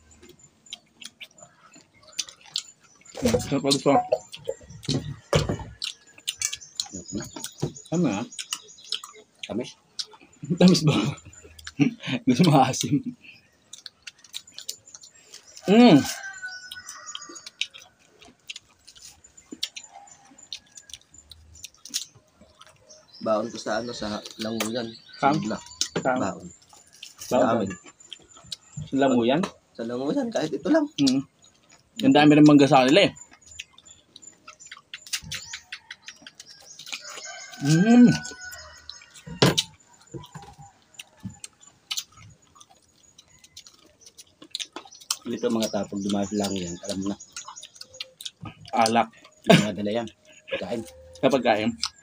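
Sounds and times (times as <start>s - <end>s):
chewing crisp mango: 0.1s - 29.6s, 30.3s - 52.0s.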